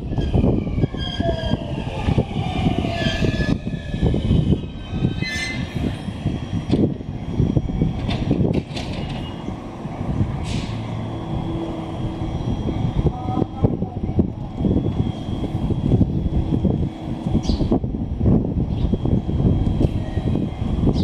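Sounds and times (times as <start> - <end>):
electric train equipment humming: 0.0 - 21.0
low rumble: 1.6 - 21.0.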